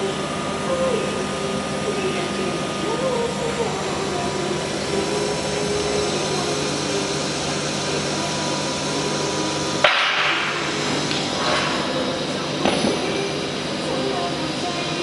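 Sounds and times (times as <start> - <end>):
machinery hum and whine: 0.0 - 15.0.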